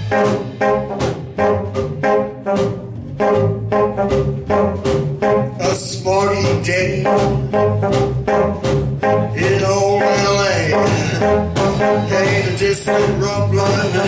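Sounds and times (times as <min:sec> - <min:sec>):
bulb horn notes: 0:00.0 - 0:14.0
steady bass drum beat: 0:00.0 - 0:14.0.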